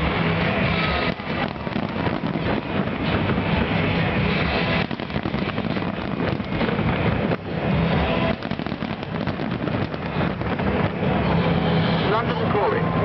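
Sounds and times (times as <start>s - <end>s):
fireworks bangs and crackles: 0.0s - 12.7s.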